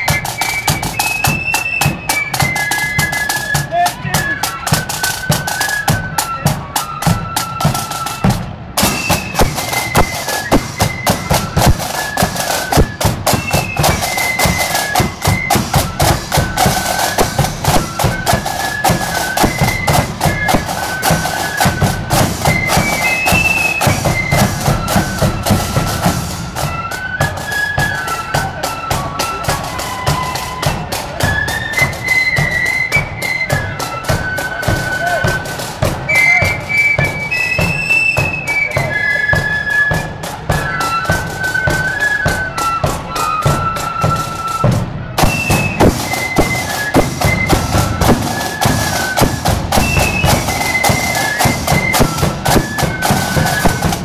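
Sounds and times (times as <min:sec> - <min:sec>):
flutes playing melody: 0:00.0 - 0:54.0
snare drum beats: 0:00.0 - 0:54.0.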